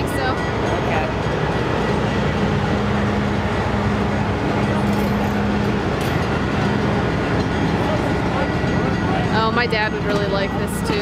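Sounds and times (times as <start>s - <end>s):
train cars rumbling past: 0.0s - 11.0s.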